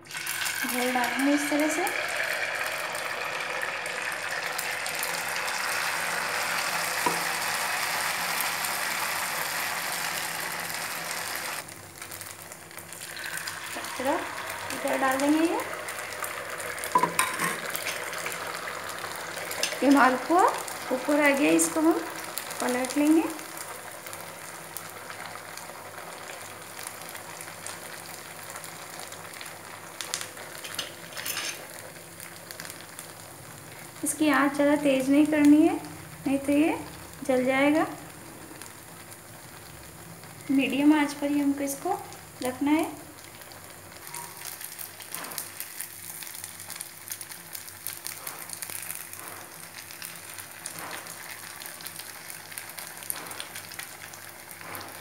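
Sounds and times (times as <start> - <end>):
batter sizzling in hot oil: 0.0 - 55.0.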